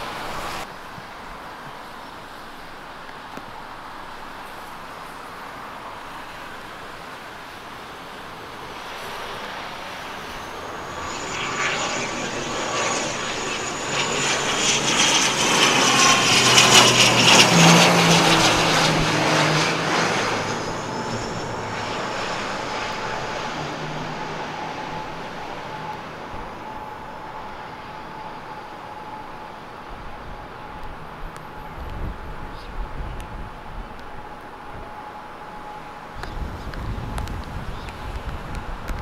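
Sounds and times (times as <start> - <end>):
turboprop plane droning: 0.0 - 39.0.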